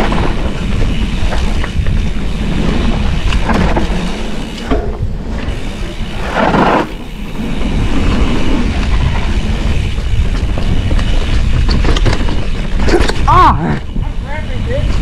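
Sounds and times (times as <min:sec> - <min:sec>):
bike rattling: 0:00.0 - 0:15.0
tyres rolling on dirt: 0:00.0 - 0:15.0
wind buffeting microphone: 0:00.0 - 0:15.0.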